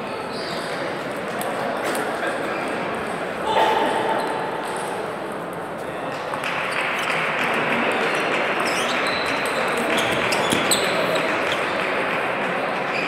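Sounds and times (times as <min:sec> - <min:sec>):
hubbub of voices in a hall: 0:00.0 - 0:13.0.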